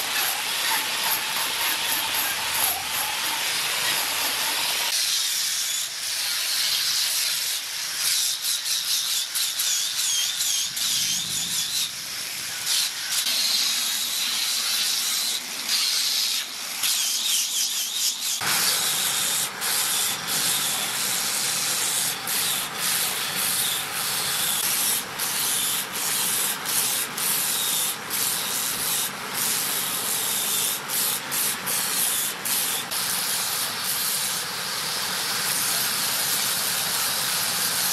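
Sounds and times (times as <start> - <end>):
angle grinder sanding wood: 0.0 - 37.9.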